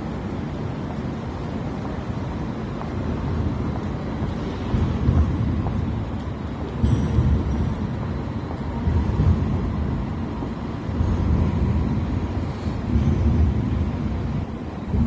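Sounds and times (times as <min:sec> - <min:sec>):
faint street background noise: 0:00.0 - 0:15.0
wind buffeting microphone: 0:00.0 - 0:15.0.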